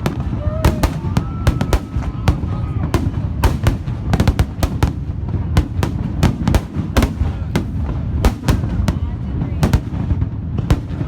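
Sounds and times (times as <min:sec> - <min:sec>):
continuous low rumble: 0:00.0 - 0:11.0
fireworks exploding: 0:00.0 - 0:11.0.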